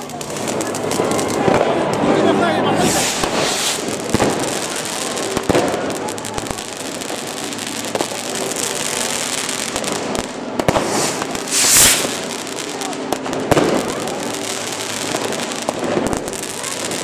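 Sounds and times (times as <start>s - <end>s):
fireworks bangs: 0.0s - 17.0s
fireworks crackling and hissing: 0.0s - 17.0s
fireworks rushing surge: 0.0s - 17.0s.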